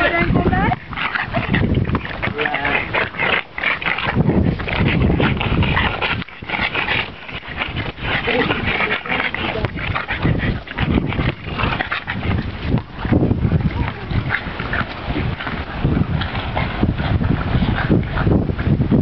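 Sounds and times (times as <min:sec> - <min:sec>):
dogs vocalizing excitedly: 0:00.0 - 0:19.0.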